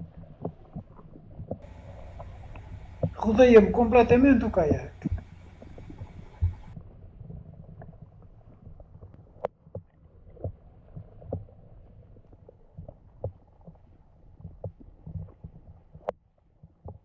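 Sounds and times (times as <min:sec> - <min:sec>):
water rumbling against kayak hull: 0:00.0 - 0:16.1.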